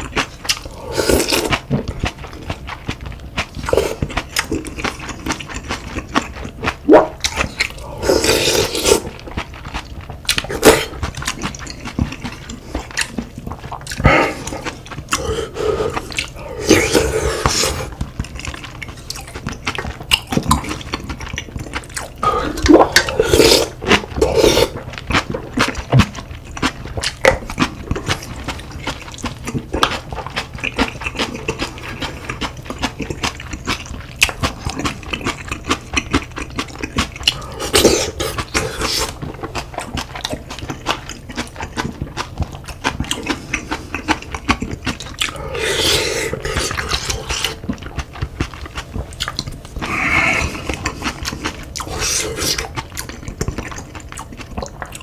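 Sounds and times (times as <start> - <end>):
chewing and biting: 0.0 - 55.0.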